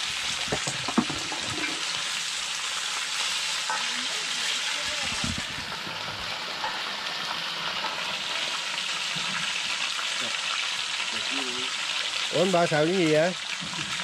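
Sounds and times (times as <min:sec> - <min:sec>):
stir-fry sizzling in a hot pan: 0:00.0 - 0:14.0.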